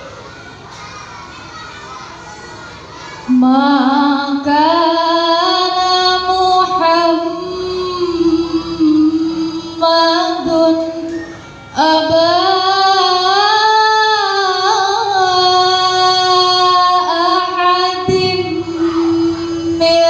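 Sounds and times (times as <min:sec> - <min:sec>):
woman reciting melodically: 0:03.0 - 0:20.0.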